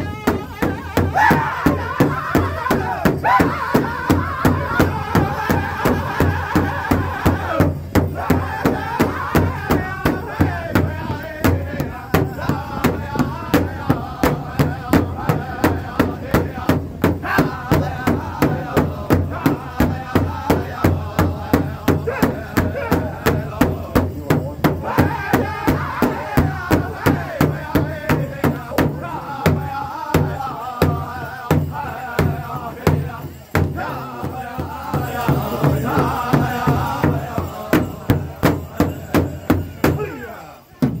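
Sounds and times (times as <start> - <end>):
big drum beating: 0.0 - 40.2, 40.8 - 41.0
men singing in high voices: 0.0 - 41.0.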